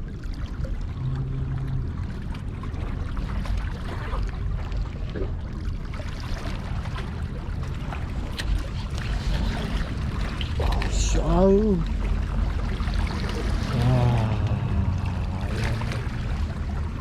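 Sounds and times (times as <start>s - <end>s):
seawater sloshing against a pier: 0.0s - 17.0s
steady low rumble: 0.0s - 17.0s.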